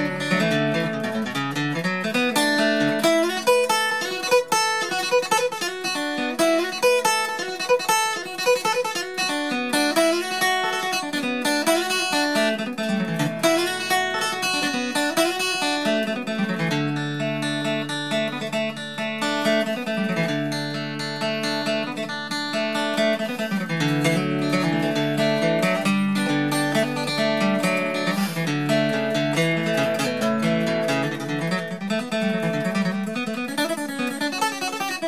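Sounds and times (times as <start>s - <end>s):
acoustic guitar picking fiddle tune: 0.0s - 35.0s.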